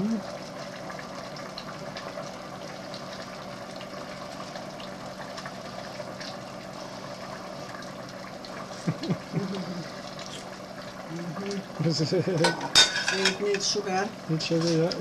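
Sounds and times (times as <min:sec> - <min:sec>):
pot simmering with bubbling hiss: 0:00.0 - 0:15.0.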